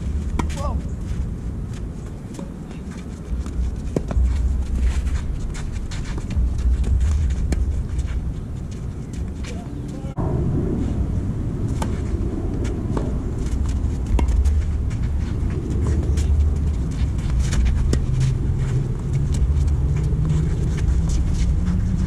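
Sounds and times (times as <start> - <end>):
footsteps scuffing on clay: 0.0 - 10.1, 11.9 - 22.0
low rumble: 0.0 - 22.0
low steady hum: 0.0 - 22.0.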